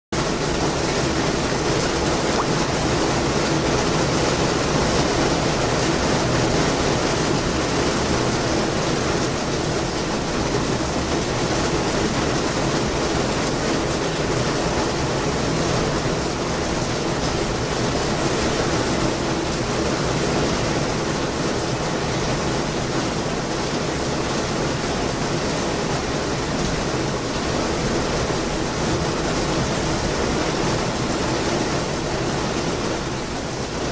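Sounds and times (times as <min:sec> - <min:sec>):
heavy rain: 0:00.2 - 0:33.9.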